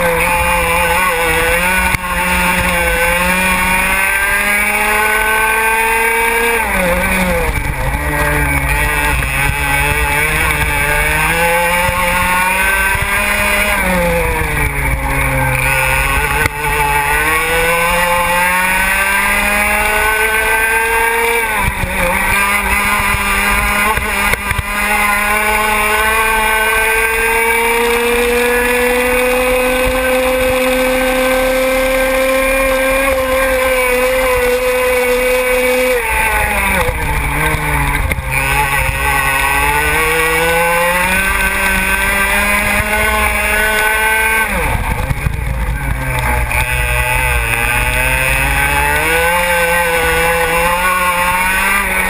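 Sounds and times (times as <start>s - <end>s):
kart engine at high revs: 0.0s - 52.0s.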